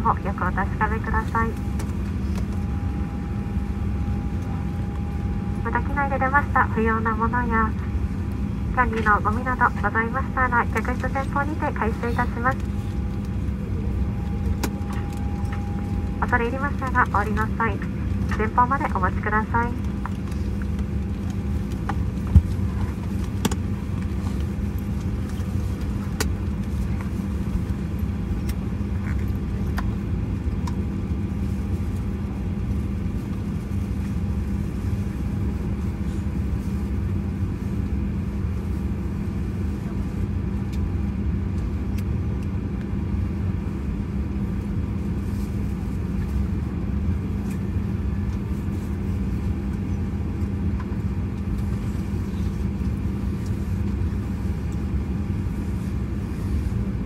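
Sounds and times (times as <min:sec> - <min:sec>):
aircraft cabin ventilation hum: 0:00.0 - 0:57.0.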